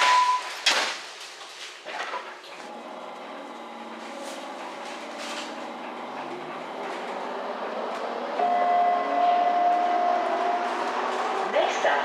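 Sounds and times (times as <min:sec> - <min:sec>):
train motor and wheels on rails: 0:01.7 - 0:12.0.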